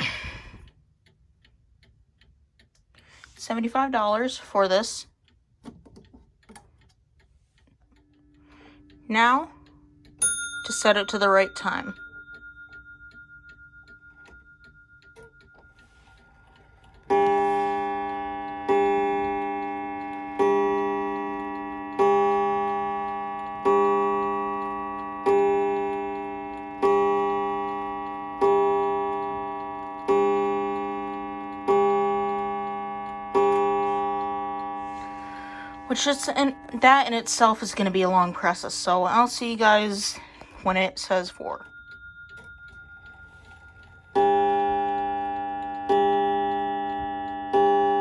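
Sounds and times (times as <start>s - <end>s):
clock ticking faintly: 0.0s - 48.0s
clock striking: 8.0s - 48.0s.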